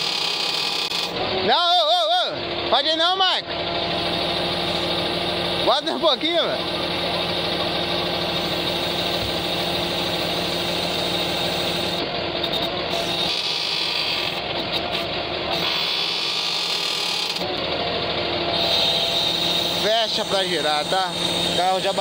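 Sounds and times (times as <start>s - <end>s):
hydraulic pump: 0.0s - 22.0s
truck engine running under load: 0.0s - 22.0s.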